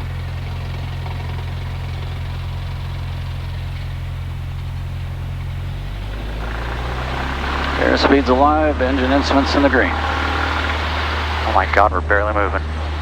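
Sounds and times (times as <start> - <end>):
airplane piston engine droning: 0.0 - 13.0.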